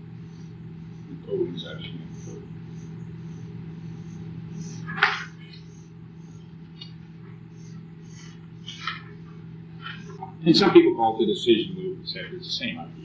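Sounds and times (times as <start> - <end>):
cassette hum and hiss: 0.0 - 13.0.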